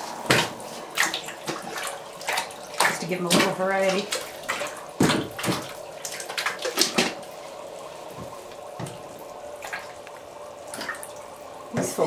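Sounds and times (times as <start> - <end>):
water splashing in a tub: 0.0 - 12.0.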